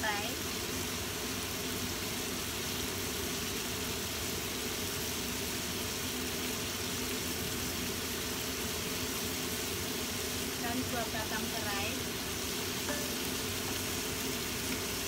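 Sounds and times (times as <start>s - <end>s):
food simmering hiss: 0.0s - 15.0s.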